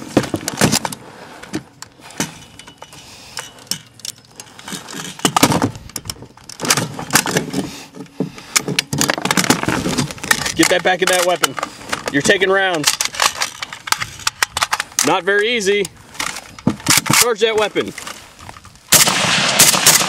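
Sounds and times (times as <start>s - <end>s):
rifle metallic clicks and clatter: 0.0s - 20.0s.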